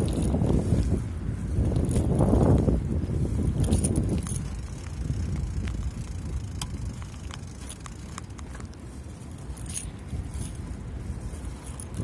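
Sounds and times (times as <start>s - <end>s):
bike clicks and rattles: 0.0s - 12.0s
bike rolling on pavement: 0.0s - 12.0s.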